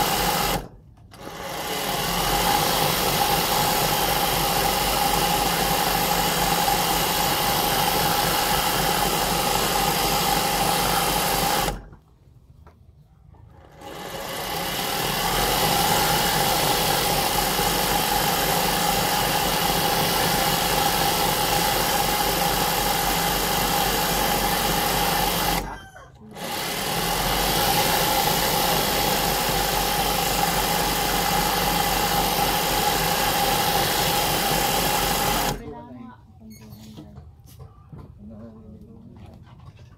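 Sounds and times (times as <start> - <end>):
sewing machine running: 0.0 - 12.0, 13.6 - 35.8.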